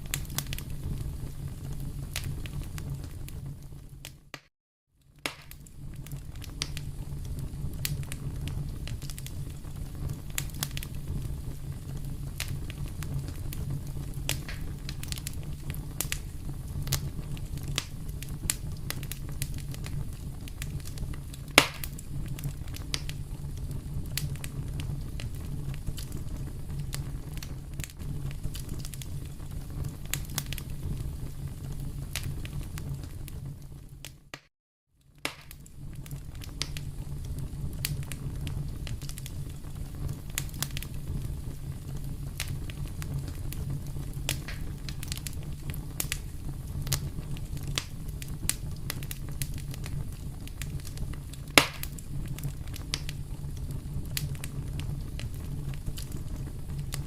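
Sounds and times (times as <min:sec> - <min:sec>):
sharp pops from fire: 0:00.0 - 0:34.5, 0:35.1 - 0:57.0
wood fire crackling: 0:00.0 - 0:57.0.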